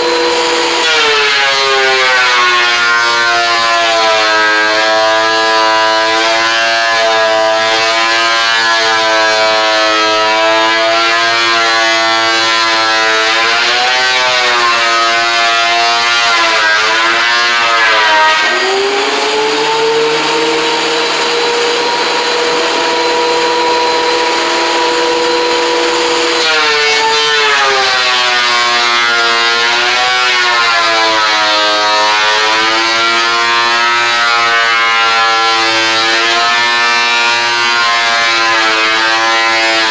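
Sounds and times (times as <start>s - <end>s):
woodworking power tool motor whine: 0.0s - 39.9s.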